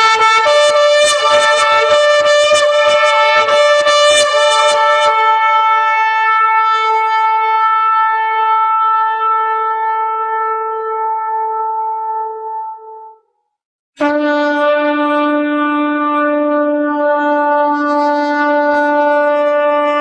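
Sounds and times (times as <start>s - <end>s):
shofar blasts: 0.0s - 13.2s, 14.0s - 20.0s.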